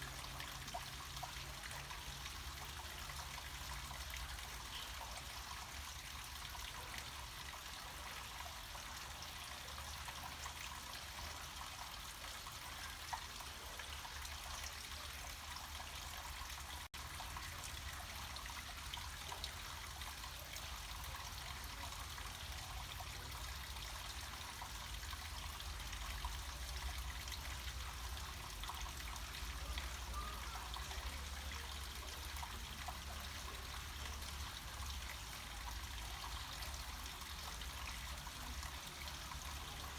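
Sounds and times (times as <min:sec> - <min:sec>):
water trickling down a stream: 0:00.0 - 0:39.9.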